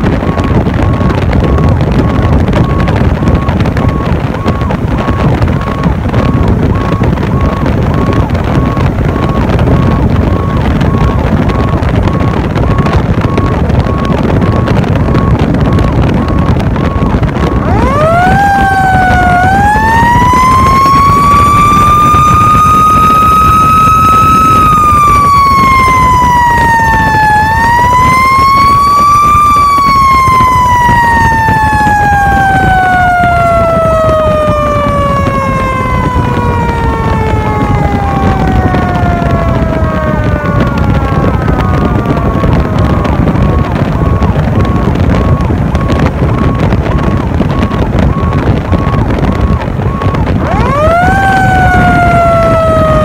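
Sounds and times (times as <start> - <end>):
fire truck siren wailing: 0.0 - 53.0
road and wind noise: 0.0 - 53.0.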